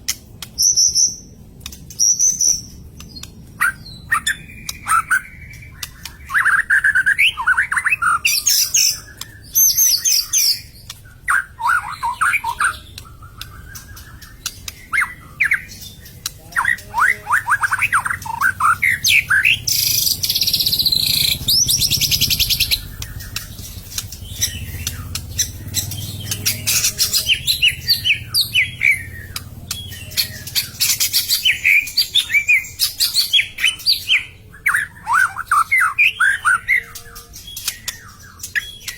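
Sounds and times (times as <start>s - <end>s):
bird whistling song: 0.5s - 38.9s.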